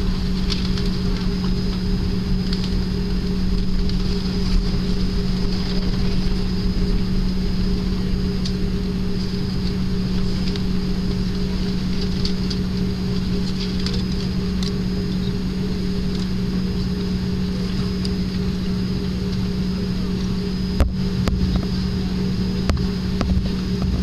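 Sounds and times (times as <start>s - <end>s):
airliner cabin rumble and hum: 0.0s - 24.0s
jet engine high whine: 0.0s - 24.0s.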